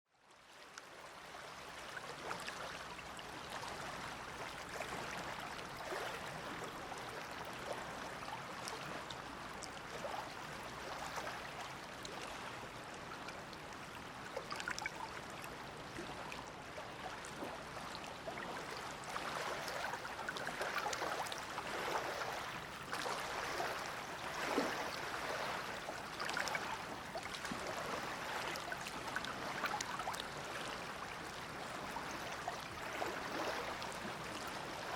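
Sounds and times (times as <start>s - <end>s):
small waves lapping at shore: 0.2s - 34.9s.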